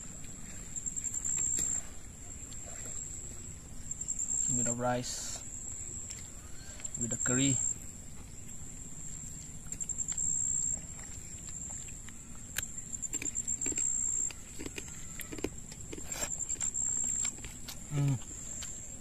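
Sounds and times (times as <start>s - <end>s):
person chewing food: 0.0s - 4.4s, 5.6s - 7.0s, 8.0s - 19.0s
insects buzzing: 0.0s - 19.0s.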